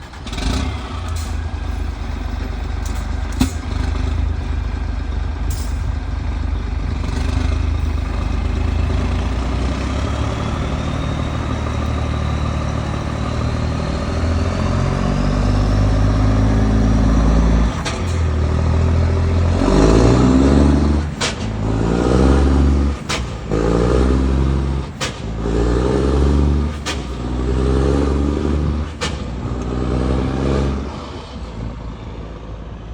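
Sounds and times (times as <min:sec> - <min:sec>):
diesel truck engine revving: 0:00.0 - 0:32.6.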